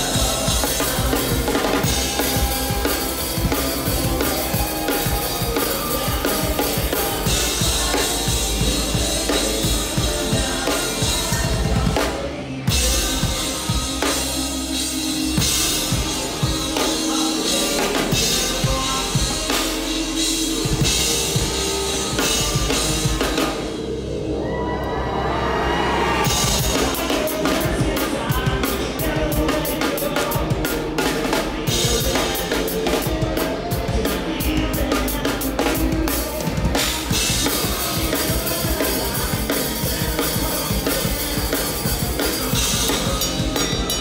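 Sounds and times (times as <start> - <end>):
drum kit: 0.0 - 44.0
rock band playing: 0.0 - 44.0.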